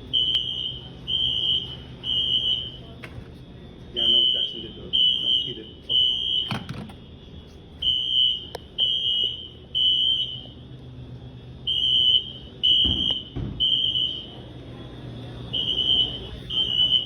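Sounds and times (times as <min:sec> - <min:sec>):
fire alarm high-pitched beeps: 0:00.0 - 0:03.0, 0:03.9 - 0:17.0.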